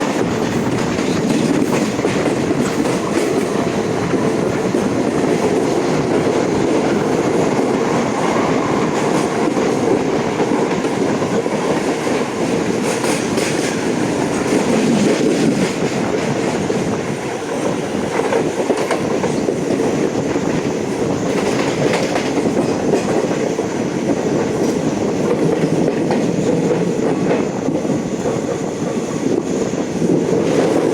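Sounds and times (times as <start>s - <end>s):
clickety-clack over rail joints: 0.0s - 30.9s
train wheels rushing on rails: 0.0s - 30.9s.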